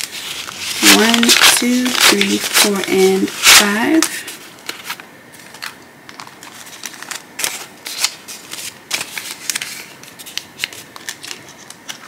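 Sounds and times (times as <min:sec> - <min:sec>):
paper banknotes rustling: 0:00.0 - 0:12.0.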